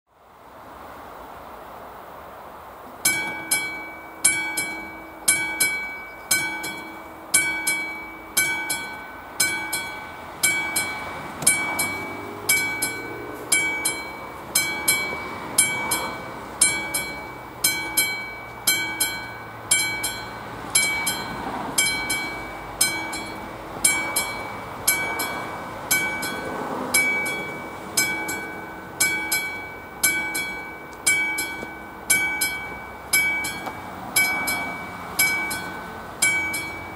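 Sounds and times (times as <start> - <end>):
level crossing bell ringing: 3.0 - 36.9.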